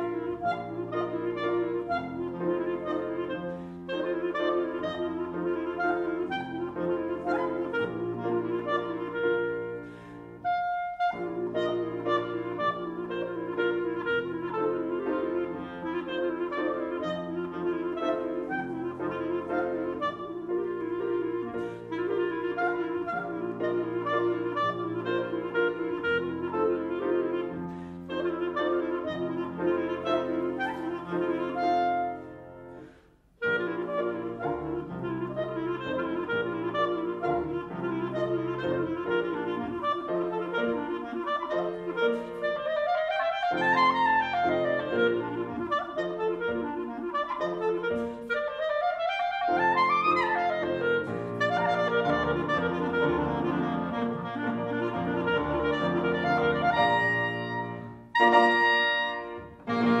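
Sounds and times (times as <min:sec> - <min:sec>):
clarinet melody: 0:00.0 - 1:00.0
piano accompaniment: 0:00.0 - 1:00.0.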